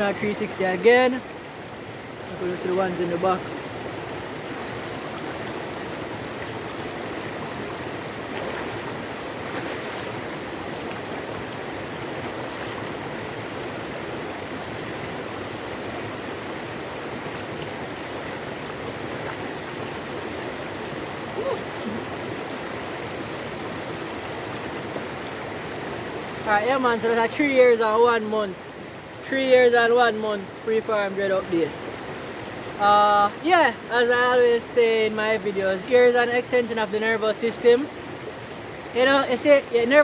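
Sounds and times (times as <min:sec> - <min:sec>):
river water rushing over rocks: 0:00.0 - 0:40.0.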